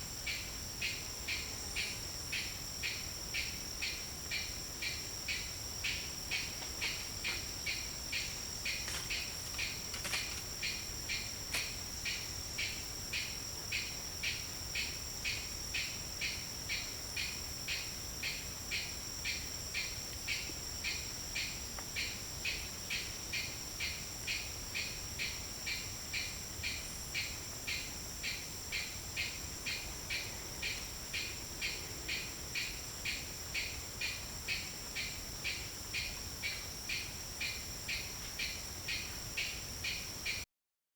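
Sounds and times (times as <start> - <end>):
high-pitched insect drone: 0.0 - 40.4
rhythmic pulsed insect call: 0.0 - 40.5.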